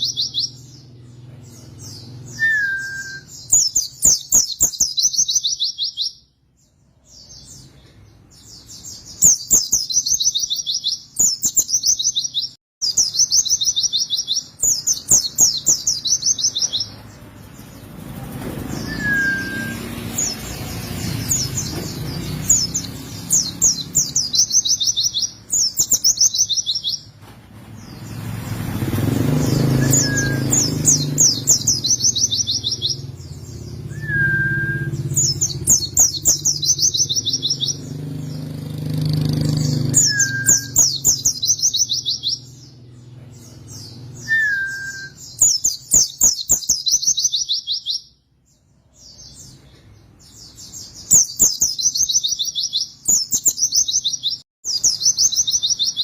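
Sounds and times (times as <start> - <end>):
bird singing rapid trills: 0.0 - 56.0.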